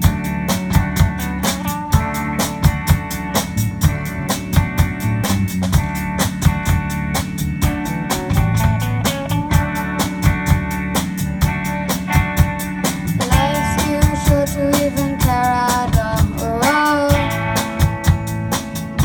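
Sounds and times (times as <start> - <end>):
drum kit beat: 0.0 - 19.0
rock band playing: 0.0 - 19.0.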